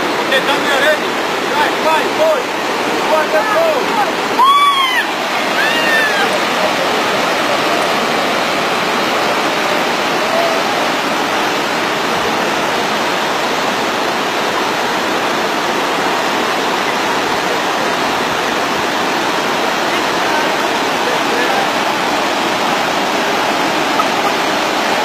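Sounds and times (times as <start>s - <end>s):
whitewater rapids rushing: 0.0s - 25.0s.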